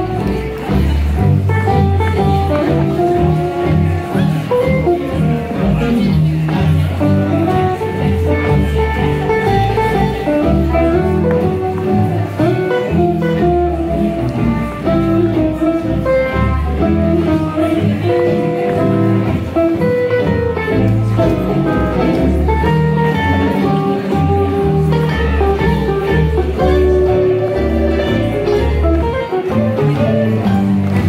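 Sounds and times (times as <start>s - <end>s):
acoustic guitars strumming: 0.0s - 31.0s
lead melody: 0.0s - 31.0s
upright double bass: 0.0s - 31.0s.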